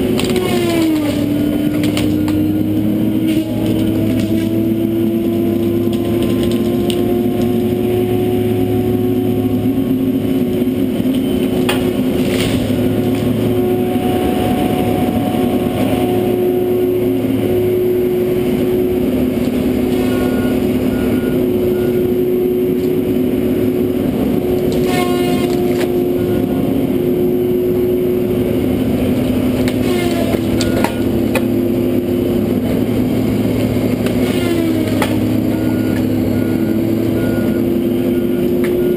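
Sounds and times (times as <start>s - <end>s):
diesel engine and hydraulics drone: 0.0s - 38.9s.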